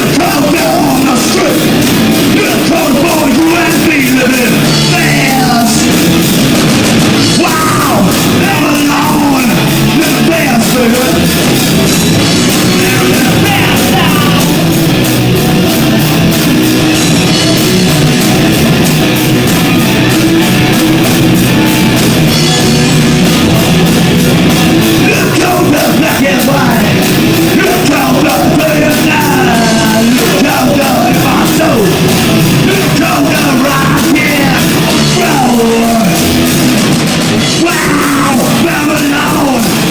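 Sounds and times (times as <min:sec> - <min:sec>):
distorted live rock band: 0:00.0 - 0:39.9.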